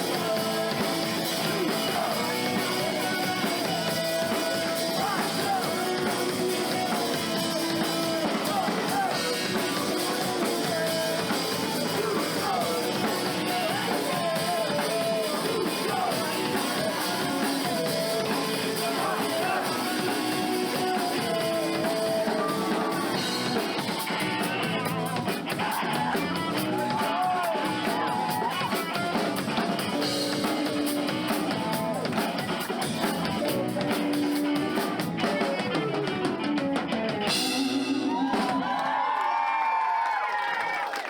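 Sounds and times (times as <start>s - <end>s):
live rock band playing: 0.0s - 38.8s.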